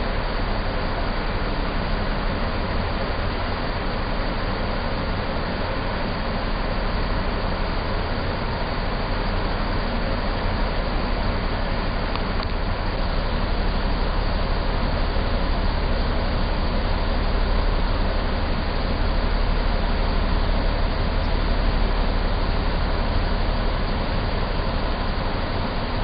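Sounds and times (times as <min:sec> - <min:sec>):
crane machinery rumble and hiss: 0:00.0 - 0:26.0.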